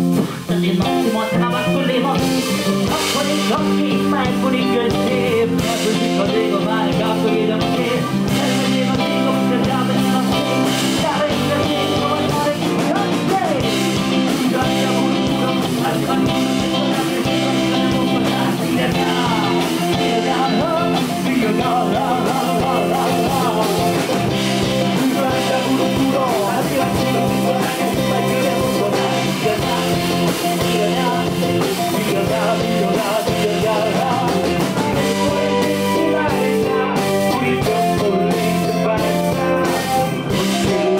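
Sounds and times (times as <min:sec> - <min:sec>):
blues-rock band playing: 0:00.0 - 0:40.9
person rapping: 0:00.2 - 0:40.9.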